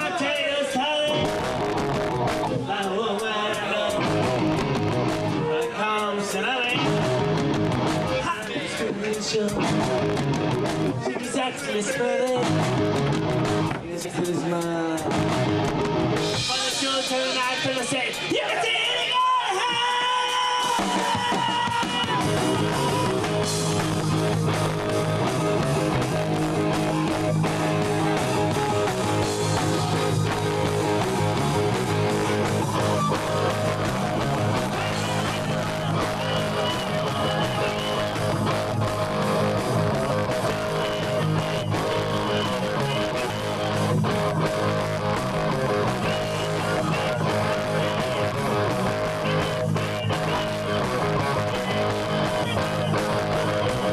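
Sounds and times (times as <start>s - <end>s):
strummed electric guitar: 0.0s - 19.0s, 19.6s - 53.9s
bass guitar: 0.0s - 53.9s
drums: 0.0s - 53.9s.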